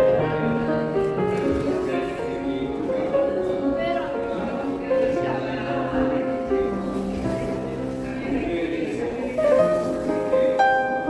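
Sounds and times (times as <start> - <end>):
slow gentle background music: 0.0 - 11.0.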